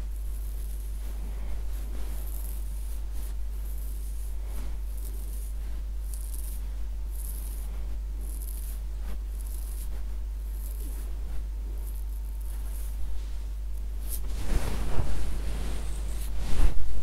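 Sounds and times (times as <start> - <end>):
fingers scratching through hair: 0.0 - 17.0.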